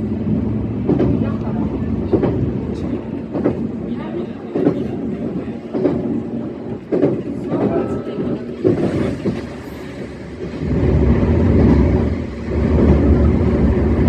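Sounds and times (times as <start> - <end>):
train low rumble: 0.0 - 14.0
train wheels clacking over rail joints: 0.8 - 14.0.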